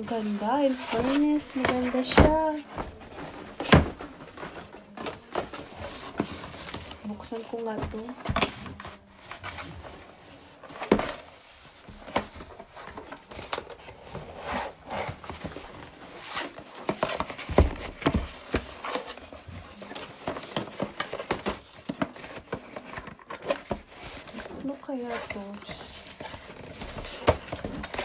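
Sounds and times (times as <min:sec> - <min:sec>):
packaging rustling and crinkling: 0:00.0 - 0:28.0.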